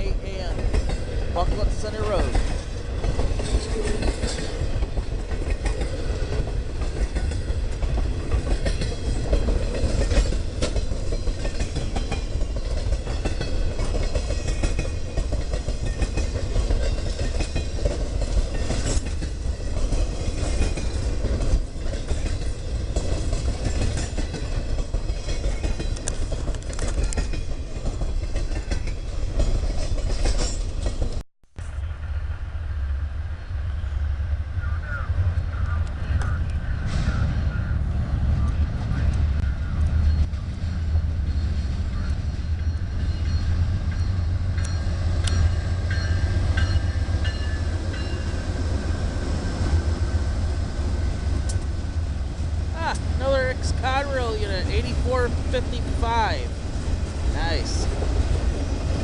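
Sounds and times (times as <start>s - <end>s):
train wheels rumbling: 0.0s - 59.0s
wheels clicking over rail joints: 0.5s - 31.2s, 41.3s - 59.0s.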